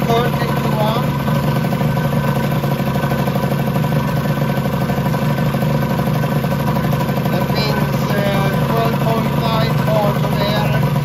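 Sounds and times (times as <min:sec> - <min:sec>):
two-stroke engine running steadily: 0:00.0 - 0:11.0.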